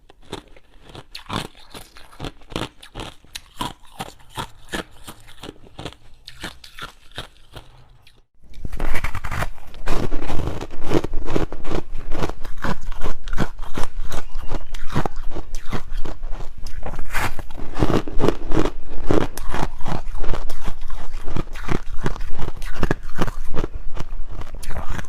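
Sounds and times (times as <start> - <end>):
ice being chewed: 0.1 - 8.3, 9.1 - 25.0.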